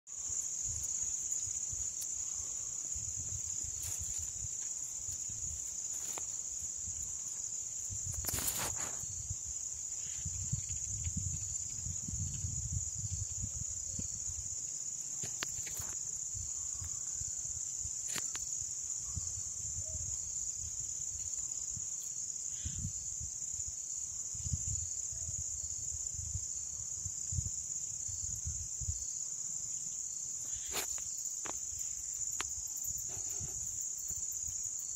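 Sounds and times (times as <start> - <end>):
high-pitched insect chorus: 0.1 - 34.9.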